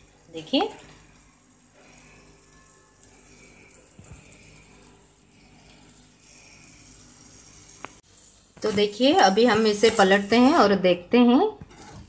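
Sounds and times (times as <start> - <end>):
flatbread sizzling on a griddle: 0.0 - 10.8, 11.7 - 12.0.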